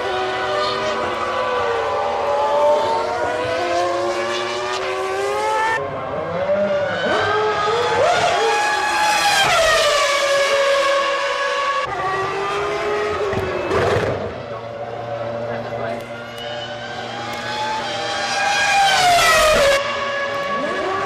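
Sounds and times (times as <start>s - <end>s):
racing car engines at high revs: 0.0s - 21.0s.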